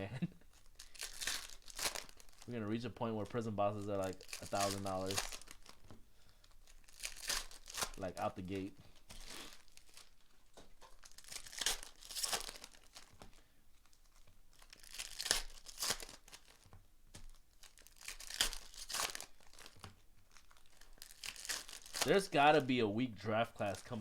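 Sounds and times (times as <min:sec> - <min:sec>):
foil wrappers tearing and crinkling: 0:00.5 - 0:22.8, 0:23.4 - 0:24.0.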